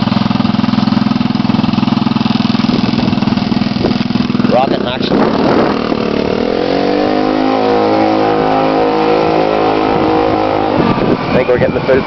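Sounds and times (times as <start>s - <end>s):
trike engine at full throttle: 0.0s - 12.0s.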